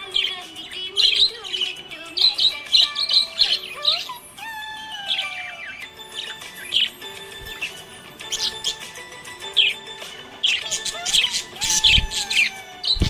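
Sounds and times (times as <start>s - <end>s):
budgie chirping and chattering: 0.0s - 13.0s.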